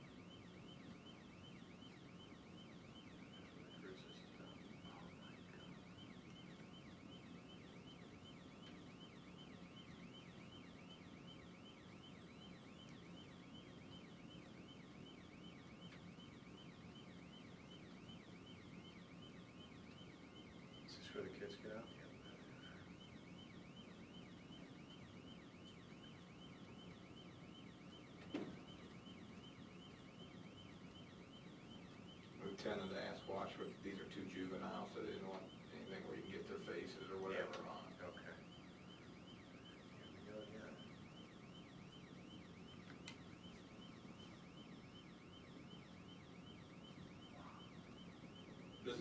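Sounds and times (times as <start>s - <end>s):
police siren yelp: 0.0s - 49.0s.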